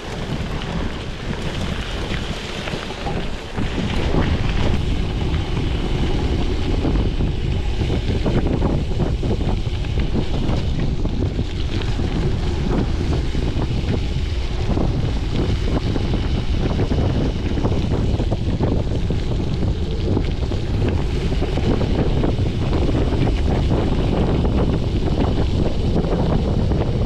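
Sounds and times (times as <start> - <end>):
tyres crackling on gravel: 0.0 - 27.0
wind buffeting microphone: 0.0 - 27.0.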